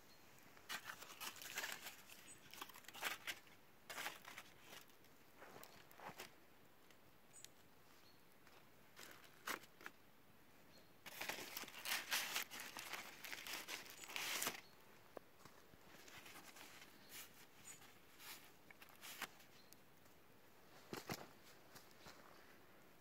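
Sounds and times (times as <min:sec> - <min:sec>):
crinkling rustling handling noise: 0:00.5 - 0:07.0, 0:08.4 - 0:10.0, 0:11.0 - 0:22.5.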